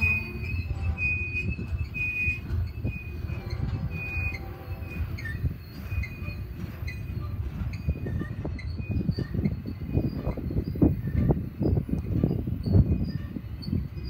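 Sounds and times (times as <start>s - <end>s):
high-pitched wheel squeals: 0.0s - 14.0s
train wheels rumbling on rails: 0.0s - 14.0s.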